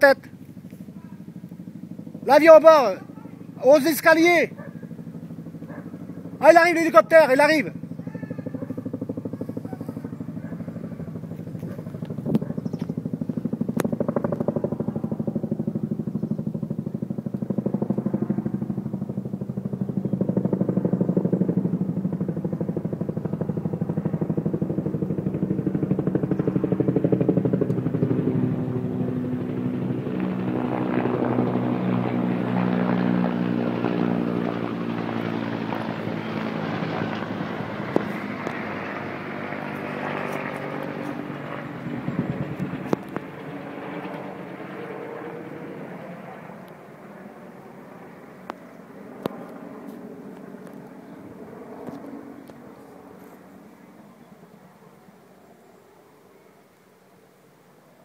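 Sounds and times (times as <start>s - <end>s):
helicopter flying overhead: 0.0s - 58.0s.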